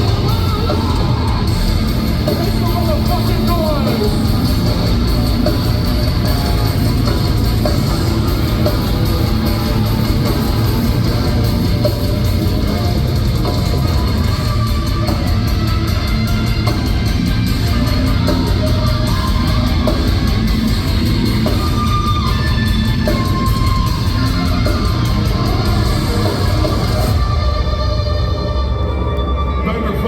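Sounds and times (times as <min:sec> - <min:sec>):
heavy metal band playing live: 0:00.0 - 0:30.0.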